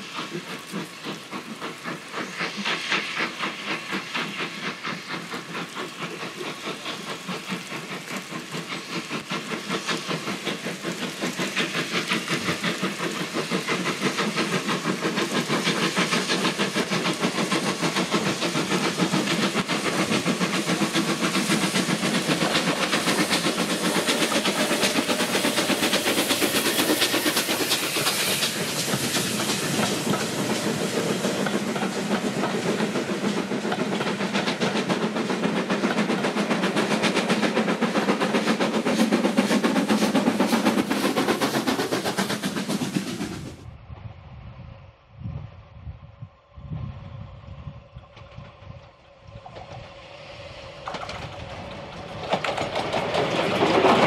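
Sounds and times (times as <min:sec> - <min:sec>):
steam hissing: 0:00.0 - 0:43.8, 0:48.6 - 0:54.0
steam locomotive exhaust chuffs: 0:00.0 - 0:43.8, 0:46.2 - 0:54.0
train rumbling on rails: 0:00.0 - 0:54.0.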